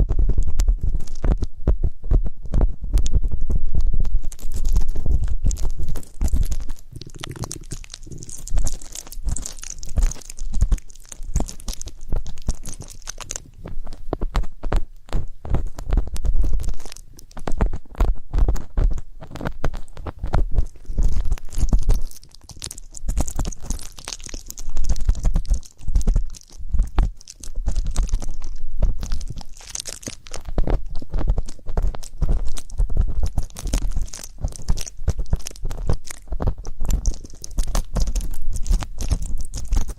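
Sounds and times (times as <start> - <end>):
close-up scratches and clicks: 0.0 - 39.9
ear pick scratching in ear: 0.0 - 39.9.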